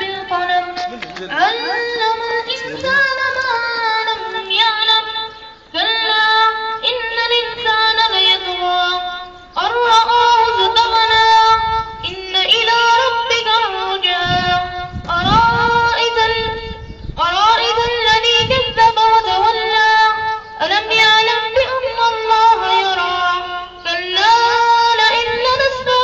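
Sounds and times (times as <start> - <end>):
high voice singing with vibrato: 0.0 - 26.0.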